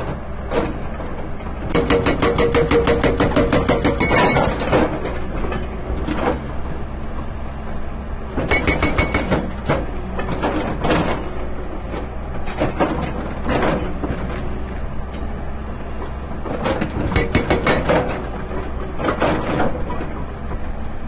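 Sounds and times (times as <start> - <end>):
hydraulic rock breaker hammering: 0.0 - 6.6, 8.3 - 15.3, 16.4 - 20.6
excavator engine running: 0.0 - 21.0.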